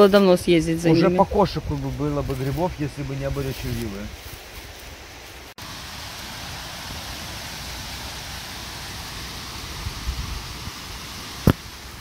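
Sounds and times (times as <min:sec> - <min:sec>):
steady hiss: 0:01.1 - 0:12.0.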